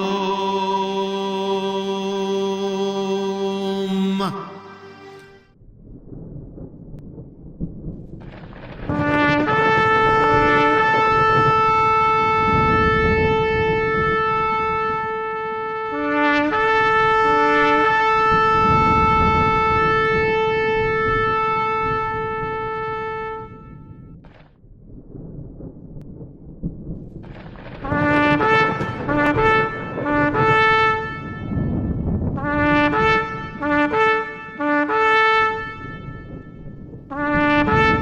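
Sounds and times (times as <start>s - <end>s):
shofar blowing: 0.0s - 5.5s, 8.9s - 24.0s, 27.8s - 38.0s
low rumble: 5.2s - 15.7s, 16.4s - 38.0s.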